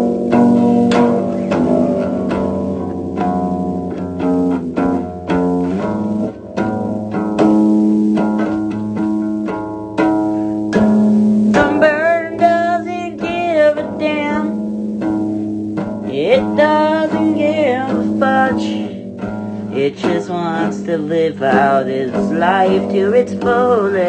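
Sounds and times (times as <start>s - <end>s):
bass: 0.0s - 24.0s
plucked guitar notes: 0.0s - 24.0s.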